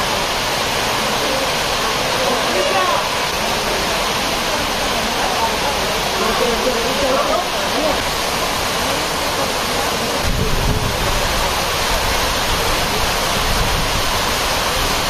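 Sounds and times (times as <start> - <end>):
heavy rain on metal roof: 0.0 - 15.0.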